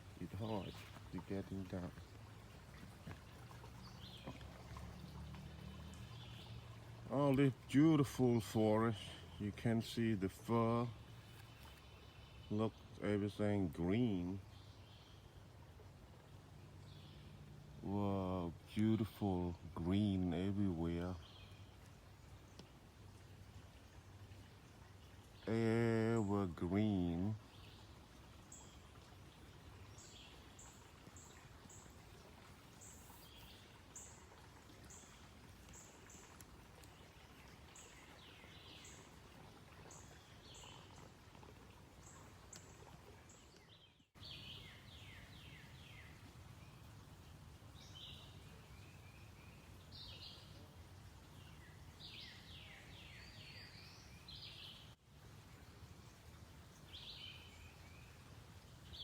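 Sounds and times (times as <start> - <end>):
birds singing: 0.0 - 15.4, 16.3 - 22.7, 25.0 - 32.0, 32.8 - 39.2, 39.8 - 41.2, 42.0 - 46.8, 47.8 - 50.7, 51.3 - 55.0, 56.8 - 58.2.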